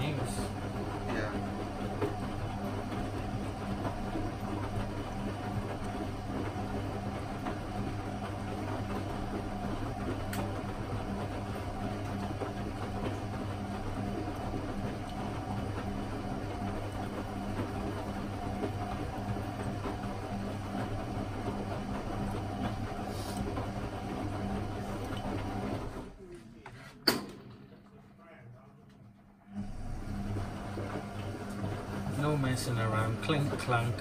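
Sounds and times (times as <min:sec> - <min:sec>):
washing machine motor hum: 0:00.0 - 0:34.0.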